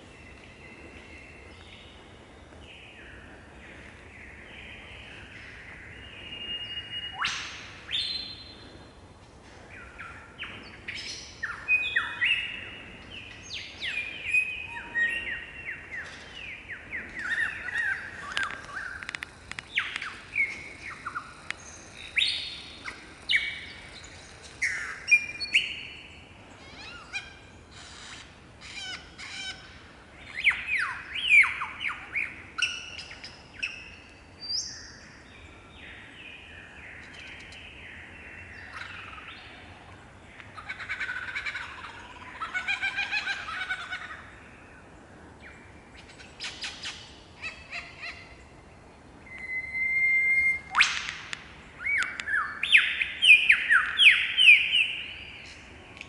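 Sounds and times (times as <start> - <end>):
lyrebird singing: 9.7 - 48.6, 49.2 - 55.8.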